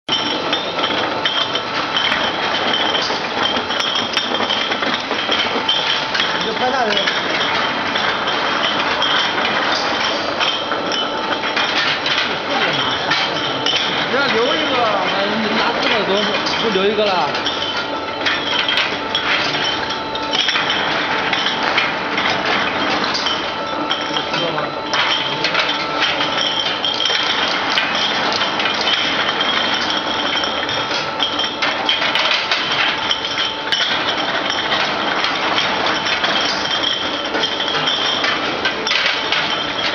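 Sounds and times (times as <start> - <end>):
bottle washing machine running: 0.0 - 39.9
glass bottles clinking: 0.1 - 39.9.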